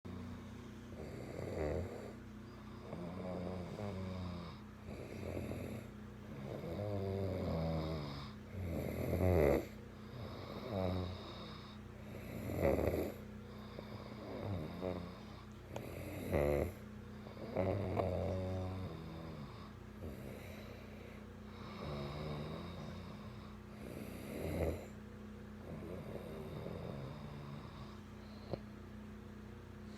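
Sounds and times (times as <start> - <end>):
person snoring: 0.9 - 25.0, 25.6 - 28.6.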